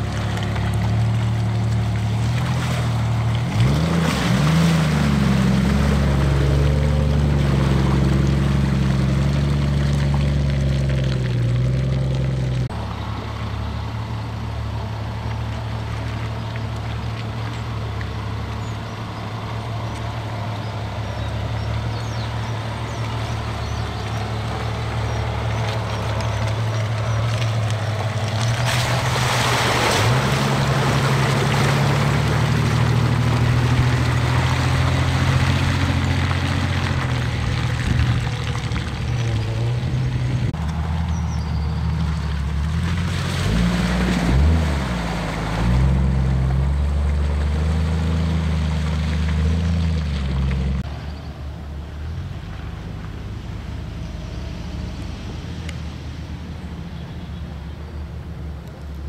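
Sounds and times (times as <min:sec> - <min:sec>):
engines revving under load: 0:00.0 - 0:15.7, 0:17.8 - 0:51.2
mud and water splashing: 0:00.0 - 0:59.0.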